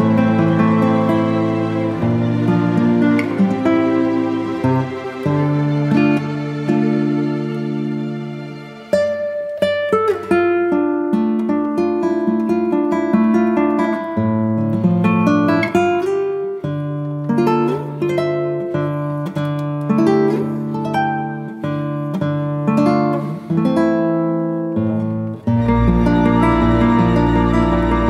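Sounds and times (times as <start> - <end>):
plucked string music: 0.0 - 28.0.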